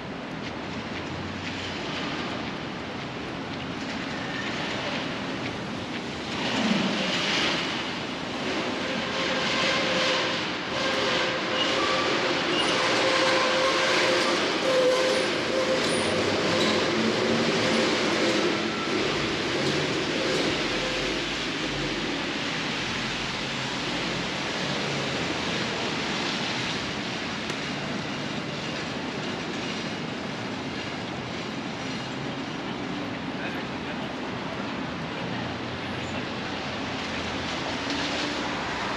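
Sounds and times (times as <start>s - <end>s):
rain on wet street: 0.0s - 10.8s, 11.4s - 38.9s.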